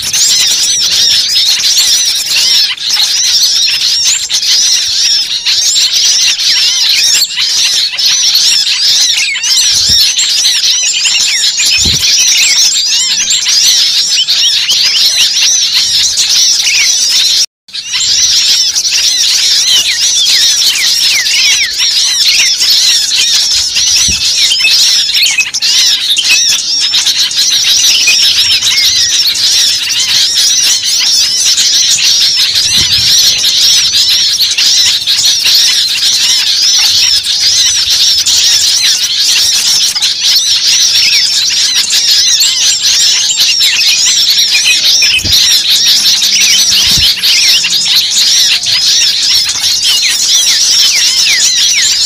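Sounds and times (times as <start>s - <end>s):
many small birds chattering: 0.0s - 52.0s.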